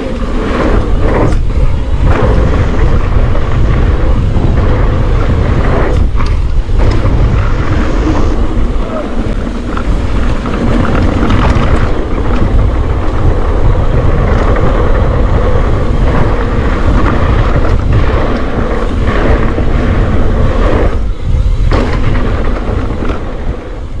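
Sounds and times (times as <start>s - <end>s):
bike tyre noise on dirt: 0.0s - 24.0s
wind rushing on microphone: 0.0s - 24.0s.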